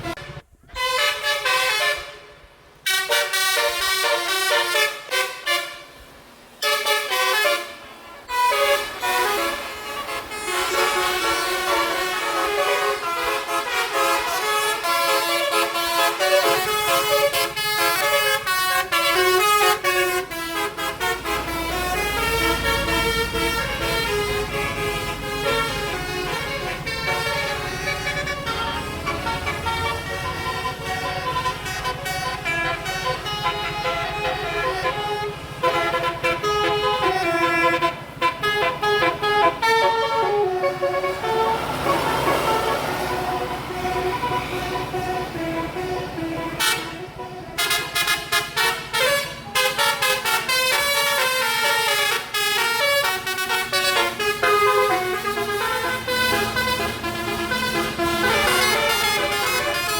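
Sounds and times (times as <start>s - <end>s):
bus engine rumble: 0.0s - 59.9s
bus horn playing a tune: 0.0s - 59.9s.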